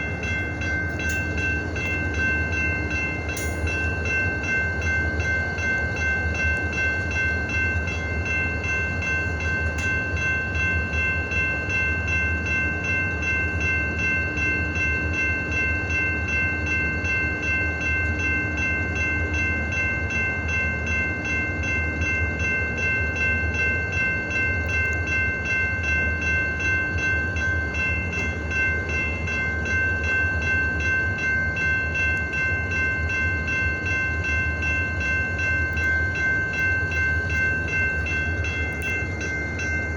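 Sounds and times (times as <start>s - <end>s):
diesel locomotive engine rumble: 0.0s - 39.9s.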